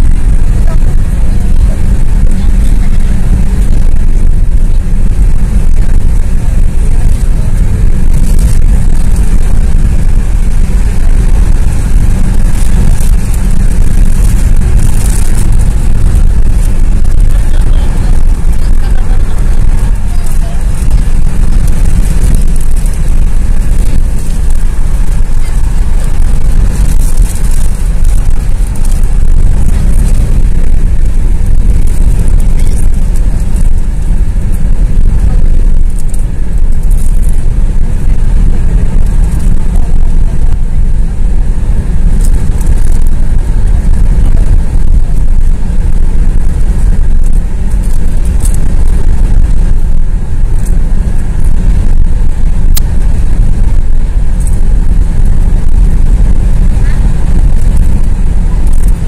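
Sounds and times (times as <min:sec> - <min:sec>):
road and wind noise inside car: 0:00.0 - 0:59.0.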